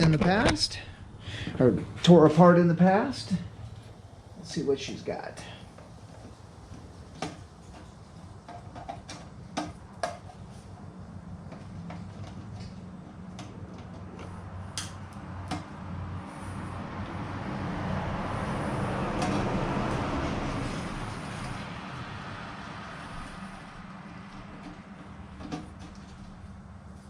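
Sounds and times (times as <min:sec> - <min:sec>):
broad rushing noise: 0:00.0 - 0:08.4, 0:13.6 - 0:27.0
steady low hum: 0:00.0 - 0:27.0.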